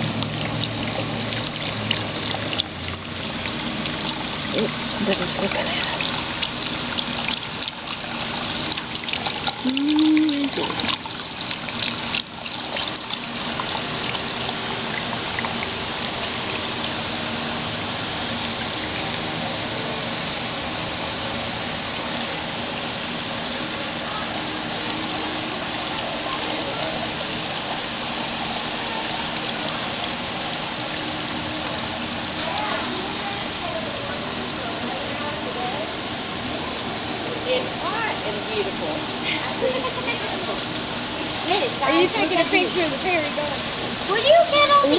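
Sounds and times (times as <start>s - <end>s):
fountain water trickling: 0.0s - 44.9s.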